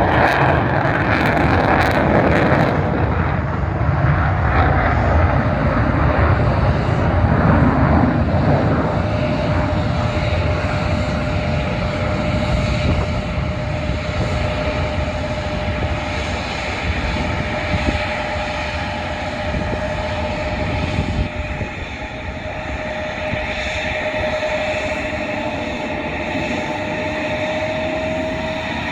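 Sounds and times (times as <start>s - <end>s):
fighter jets roaring: 0.0s - 28.9s
steady whine: 0.0s - 28.9s.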